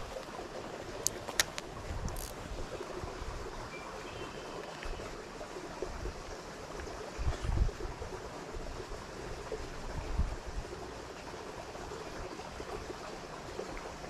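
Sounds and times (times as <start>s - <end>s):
water running over spillway: 0.0s - 14.0s.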